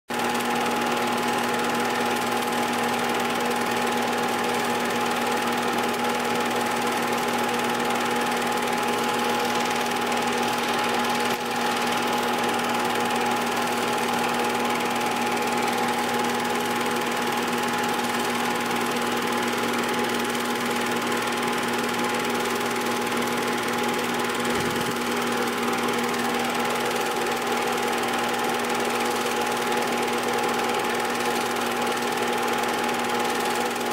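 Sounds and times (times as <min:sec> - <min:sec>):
film projector whirring: 0:00.1 - 0:33.9.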